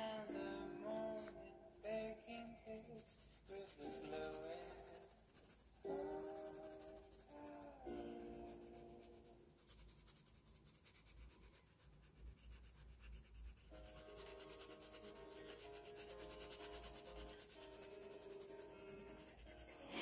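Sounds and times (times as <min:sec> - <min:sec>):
soft background music: 0:00.0 - 0:20.0
pencil shading on paper: 0:01.1 - 0:20.0.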